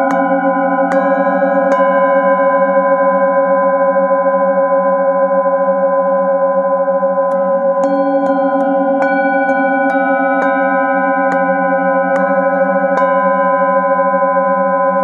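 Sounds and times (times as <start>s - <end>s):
metal singing bowls ringing: 0.0s - 15.0s.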